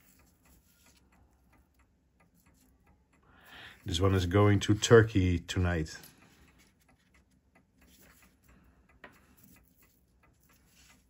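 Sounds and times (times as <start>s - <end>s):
faint ticks and clicks: 0.0s - 11.0s.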